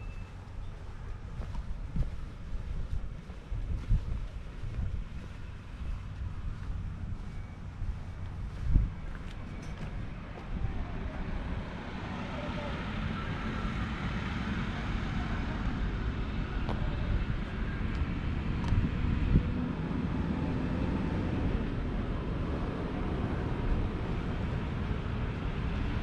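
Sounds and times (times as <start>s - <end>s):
wind on microphone: 0.0s - 12.2s, 12.9s - 26.0s
vehicle low rumble: 0.0s - 26.0s.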